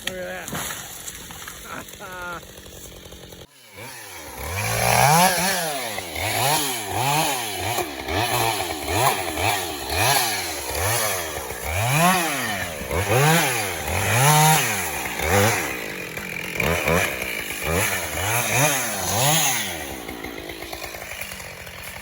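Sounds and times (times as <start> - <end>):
chainsaw revving: 0.4 - 22.0.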